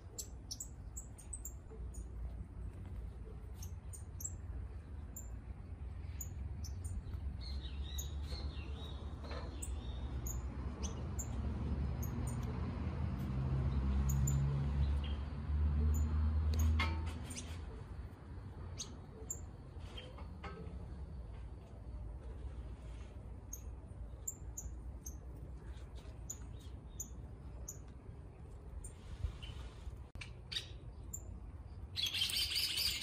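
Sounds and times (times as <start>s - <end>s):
birds chirping: 0.0s - 12.6s, 13.2s - 22.2s, 23.4s - 33.0s.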